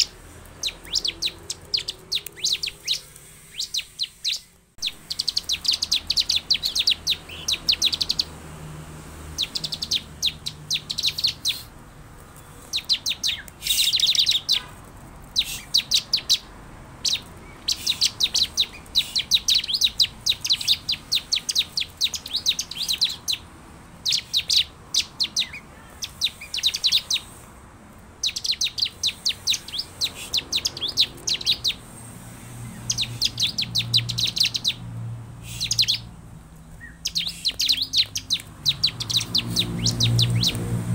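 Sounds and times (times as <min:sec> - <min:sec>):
bird chattering trills: 0:00.0 - 0:08.4, 0:09.3 - 0:11.8, 0:12.4 - 0:27.5, 0:28.2 - 0:31.9, 0:32.5 - 0:34.8, 0:35.4 - 0:40.9.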